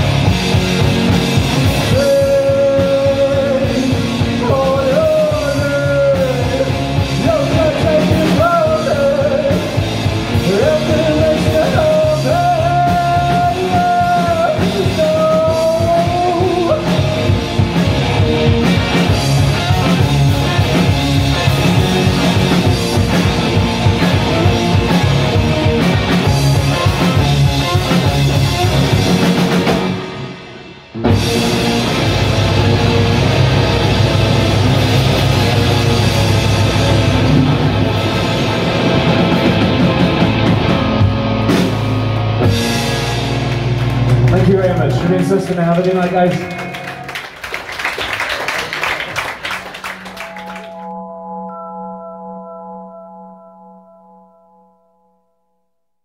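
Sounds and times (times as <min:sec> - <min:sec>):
electric guitar: 0:00.0 - 0:47.5
drum kit: 0:00.0 - 0:47.8.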